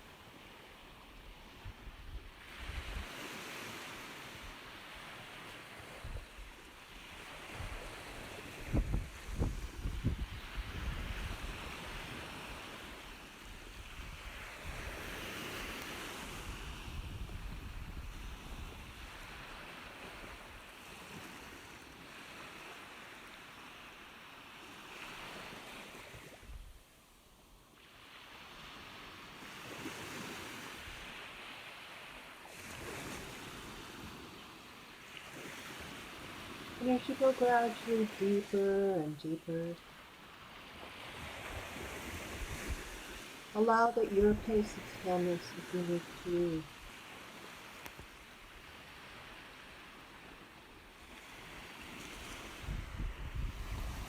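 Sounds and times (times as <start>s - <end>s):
ocean waves washing in: 0.0s - 54.0s.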